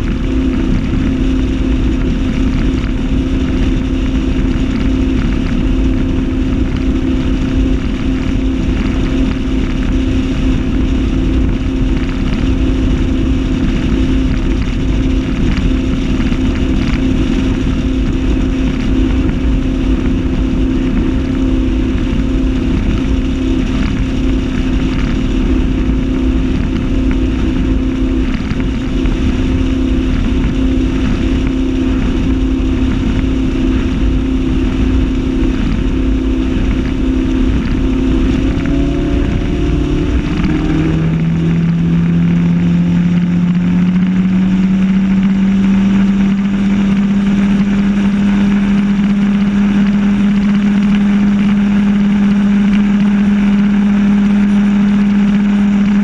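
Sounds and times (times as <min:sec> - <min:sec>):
boat engine running: 0:00.0 - 0:56.0
water rushing past: 0:00.0 - 0:56.0
wind rushing: 0:00.0 - 0:56.0.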